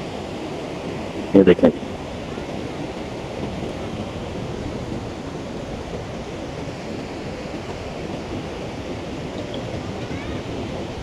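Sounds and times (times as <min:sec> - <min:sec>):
sea surf washing on shore: 0:00.0 - 0:11.0
wind rumbling on microphone: 0:00.0 - 0:11.0.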